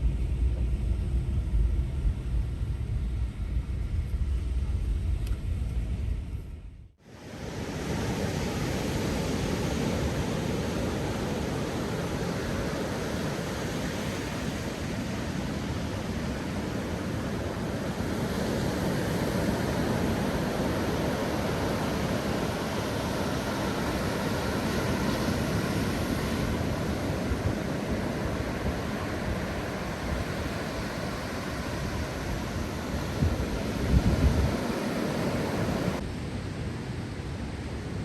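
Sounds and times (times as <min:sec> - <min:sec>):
wind: 0:00.0 - 0:38.0
sea surf rushing: 0:07.0 - 0:38.0.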